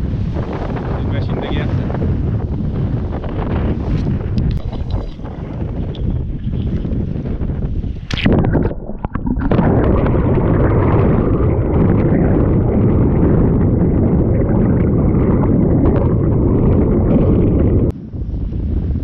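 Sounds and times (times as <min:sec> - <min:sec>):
water rushing over microphone: 0:00.0 - 0:19.0.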